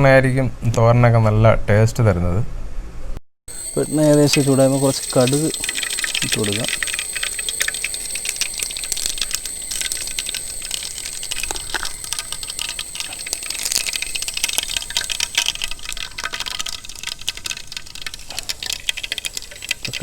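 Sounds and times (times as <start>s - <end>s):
oil sizzling: 3.5s - 20.0s
seeds popping in hot oil: 3.5s - 20.0s.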